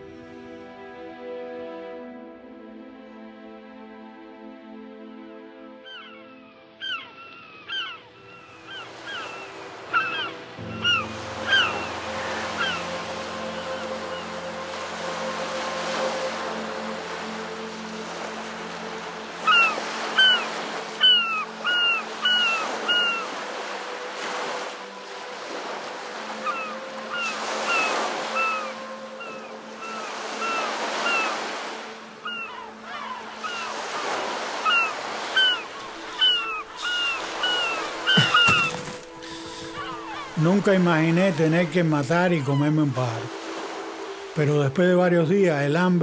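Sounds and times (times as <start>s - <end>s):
seabirds calling: 5.4s - 46.0s
sea waves washing: 7.7s - 46.0s.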